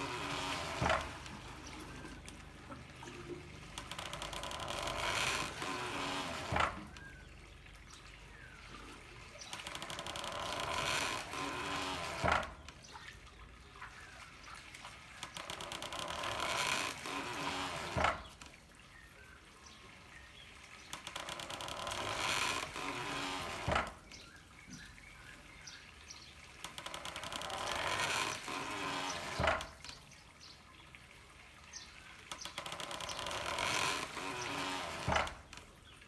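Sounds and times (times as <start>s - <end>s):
pouring water: 0.0s - 36.0s.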